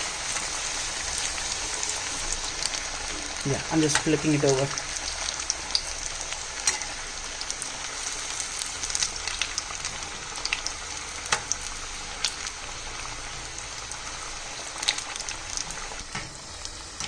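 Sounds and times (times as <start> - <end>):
food sizzling in hot oil: 0.0 - 17.0
oil crackling and popping: 0.0 - 17.0.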